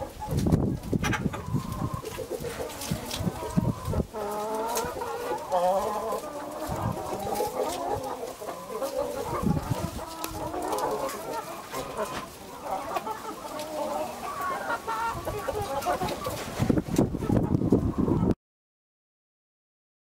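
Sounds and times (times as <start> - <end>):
hens clucking: 0.0 - 18.4.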